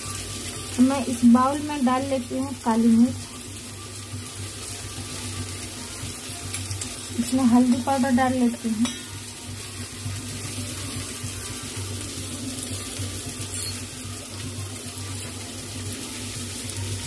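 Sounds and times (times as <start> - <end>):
potatoes and onions sizzling in oil: 0.0 - 17.0.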